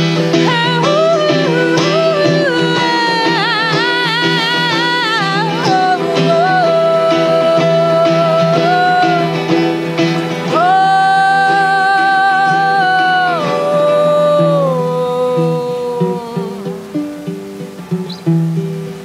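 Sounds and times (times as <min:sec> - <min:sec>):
woman singing with vibrato: 0:00.0 - 0:18.0
plucked string instrument: 0:00.0 - 0:19.0
strummed electric guitar: 0:00.0 - 0:19.0.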